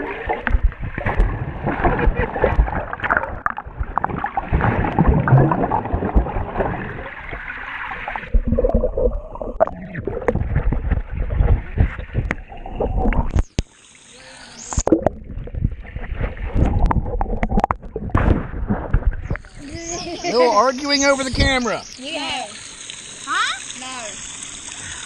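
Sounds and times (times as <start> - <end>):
muffled underwater water rush: 0.0 - 25.0.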